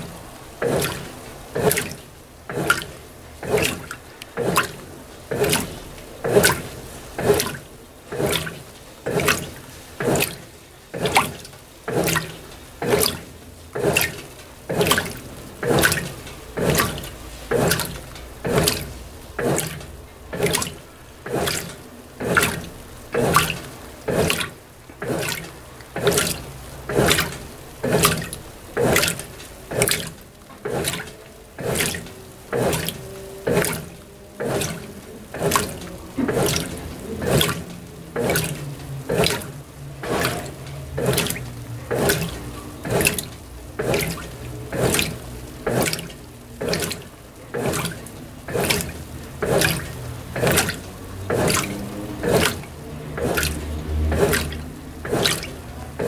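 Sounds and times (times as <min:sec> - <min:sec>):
washing machine agitator sloshing water: 0:00.0 - 0:56.0.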